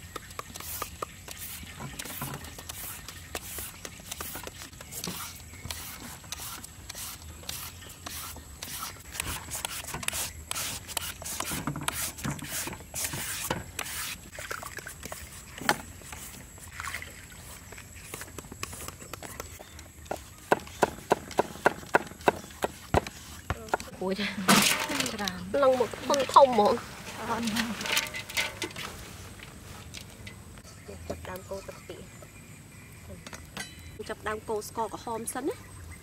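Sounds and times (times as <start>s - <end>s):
scraping and rubbing food preparation: 0.0s - 31.1s.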